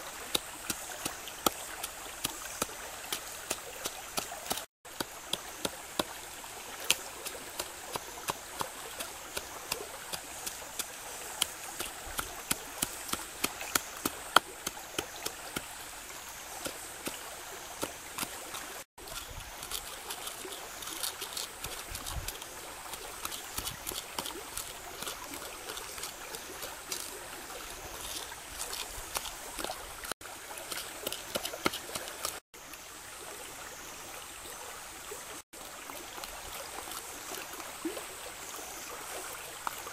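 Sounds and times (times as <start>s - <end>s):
shallow stream rushing: 0.0s - 39.9s.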